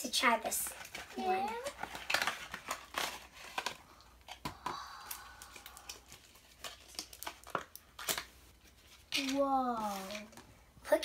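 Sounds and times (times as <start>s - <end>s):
cardboard packaging crinkling and tearing: 0.6s - 4.4s, 5.1s - 10.4s.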